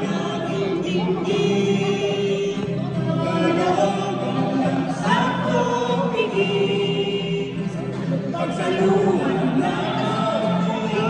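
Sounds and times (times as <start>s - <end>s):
church choir singing: 0.0s - 11.0s.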